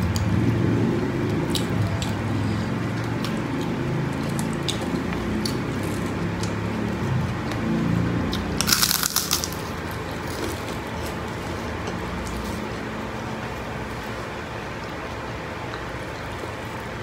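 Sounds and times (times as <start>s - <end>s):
crunchy chewing of food: 0.0s - 17.0s.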